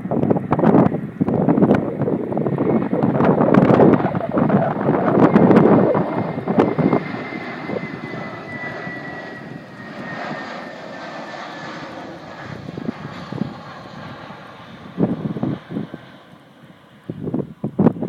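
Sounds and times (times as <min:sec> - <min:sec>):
high jet whine: 0:00.0 - 0:18.0
jet airliner engine roar: 0:00.0 - 0:18.0
wind buffeting microphone: 0:00.0 - 0:18.0.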